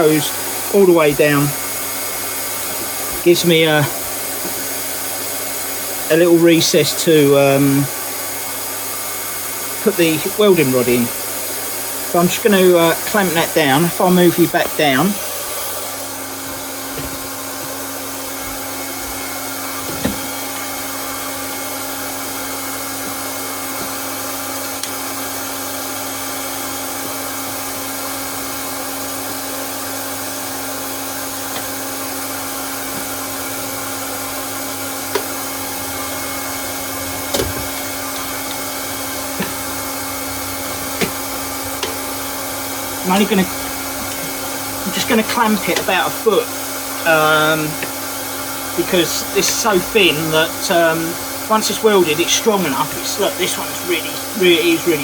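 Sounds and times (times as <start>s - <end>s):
hot-air welding gun blower hissing: 0.0s - 55.0s.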